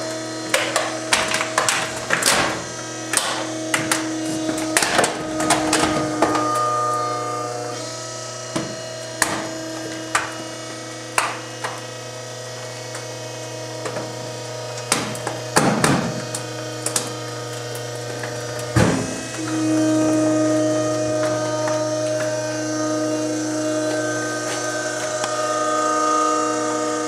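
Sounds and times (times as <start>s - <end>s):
compactor motor humming: 0.0s - 27.0s.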